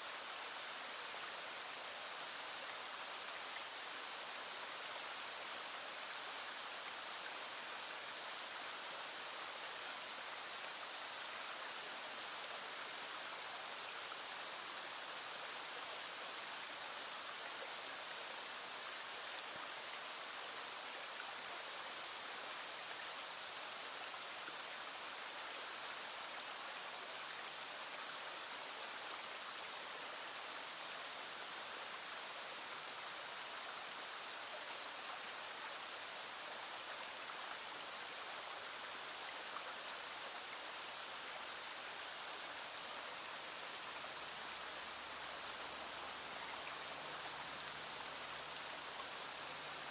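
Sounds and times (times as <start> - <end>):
small stream flowing: 0.0 - 49.9.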